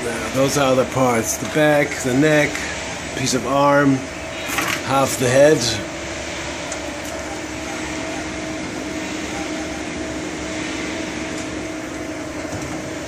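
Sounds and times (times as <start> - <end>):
fans and motors whirring: 0.0 - 13.0
steady humming tone: 0.0 - 13.0.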